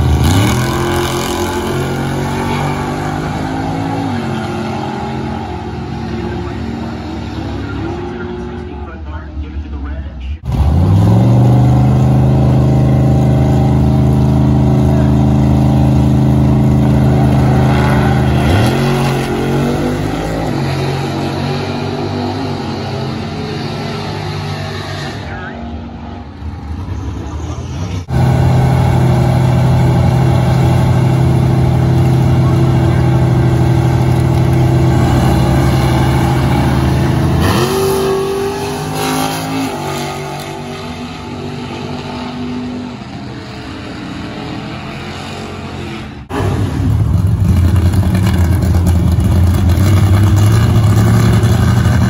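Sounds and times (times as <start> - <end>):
drag-race car engines: 0.0 - 52.0.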